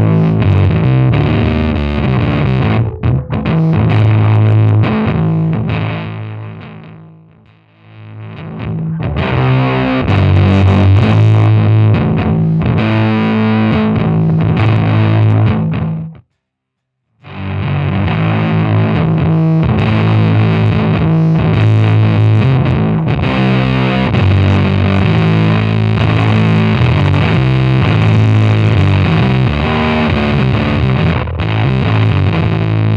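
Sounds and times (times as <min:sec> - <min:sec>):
distorted bass guitar riffing: 0:00.0 - 0:16.3, 0:17.2 - 0:32.9.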